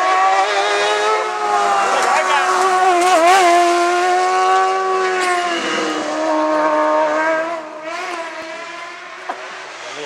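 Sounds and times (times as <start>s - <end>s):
race car engine at high revs: 0.0s - 10.0s.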